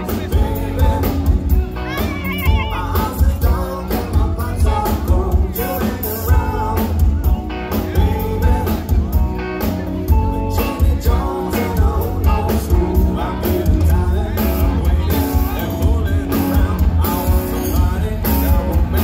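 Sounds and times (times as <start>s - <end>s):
bass: 0.0s - 19.0s
drums: 0.0s - 19.0s
electric guitars: 0.0s - 19.0s
person singing: 0.0s - 19.0s.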